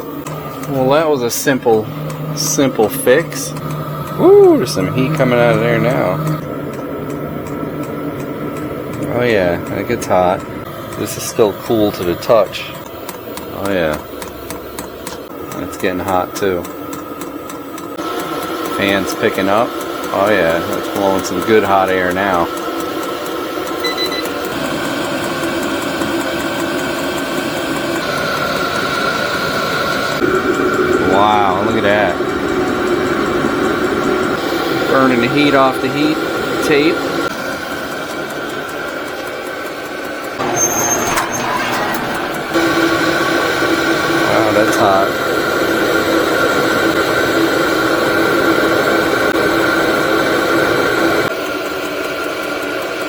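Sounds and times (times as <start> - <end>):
air heater whirring hum with whine: 0.0 - 53.0.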